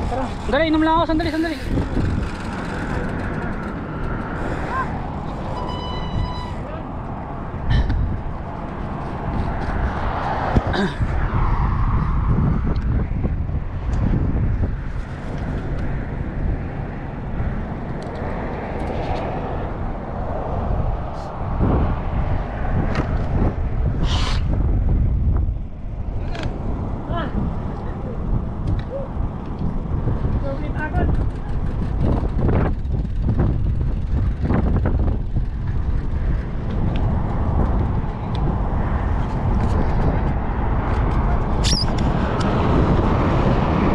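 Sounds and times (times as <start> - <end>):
car passing on highway: 0.0 - 43.9
wind buffeting microphone: 0.0 - 43.9.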